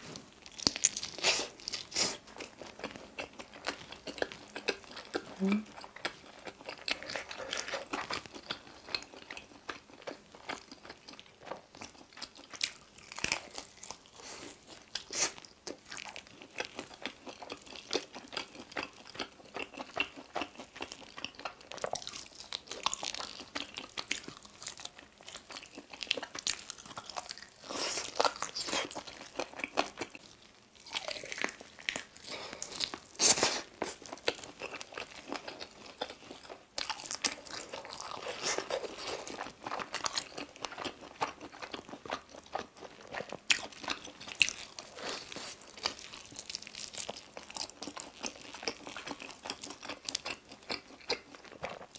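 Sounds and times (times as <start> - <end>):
eating with crunches and smacks: 0.0 - 51.9.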